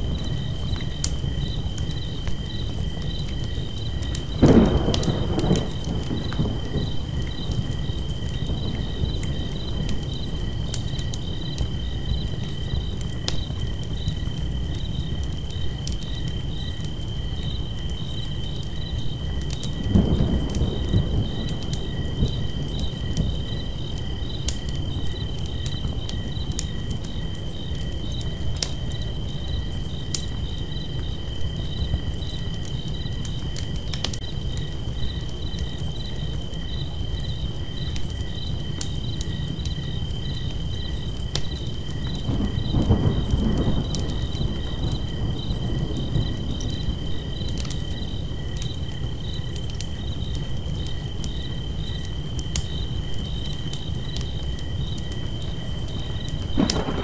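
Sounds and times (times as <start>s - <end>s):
campfire crackling: 0.0s - 57.0s
crickets chirping: 0.0s - 57.0s.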